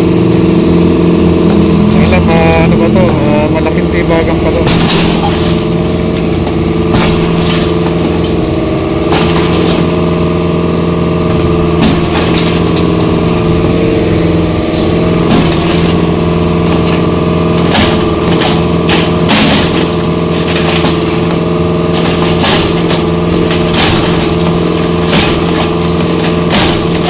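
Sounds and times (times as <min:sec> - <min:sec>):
diesel engine running: 0:00.0 - 0:27.0
wood and debris breaking: 0:04.5 - 0:27.0.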